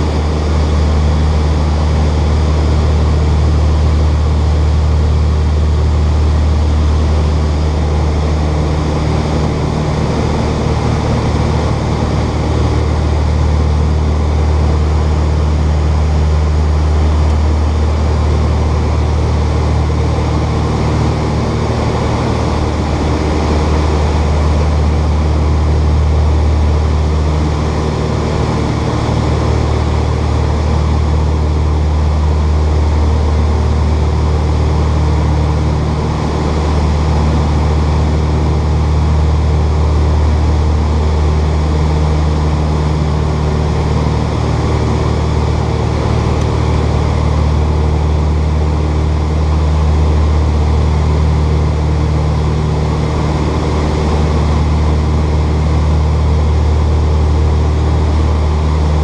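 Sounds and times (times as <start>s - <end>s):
aircraft engines droning: 0.0s - 59.0s.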